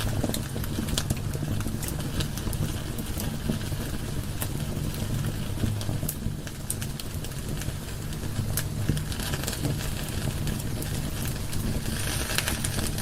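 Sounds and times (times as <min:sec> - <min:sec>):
fire burning: 0:00.0 - 0:13.0
logs crackling and popping: 0:00.0 - 0:13.0.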